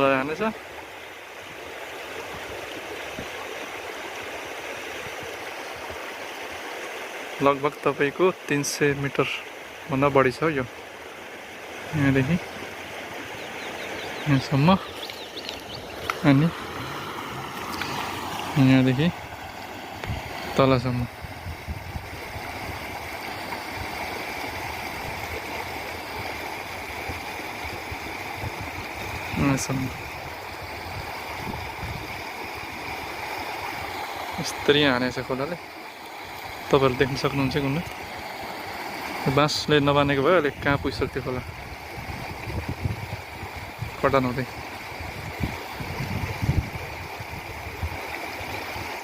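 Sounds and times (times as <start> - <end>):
river rushing: 0.0 - 49.0.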